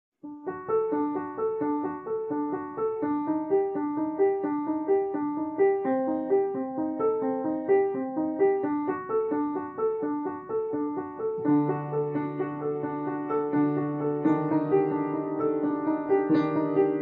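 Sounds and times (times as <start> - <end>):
gentle piano music: 0.2 - 17.0.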